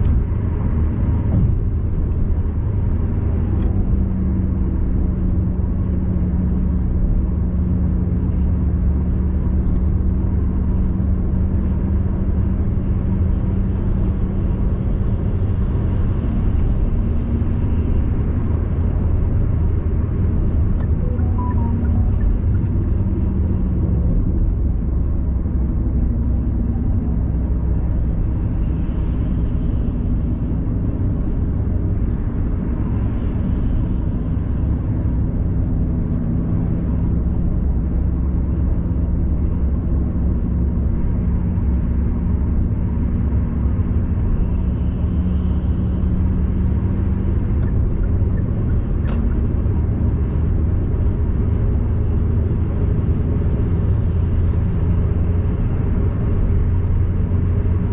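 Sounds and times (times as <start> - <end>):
car tyres and engine rumbling: 0.0 - 57.9.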